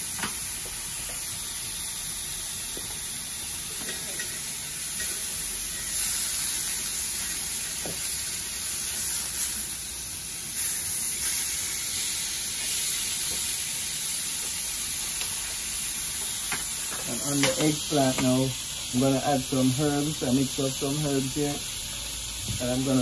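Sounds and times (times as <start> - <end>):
fish sizzling in grill pan: 0.0 - 23.0.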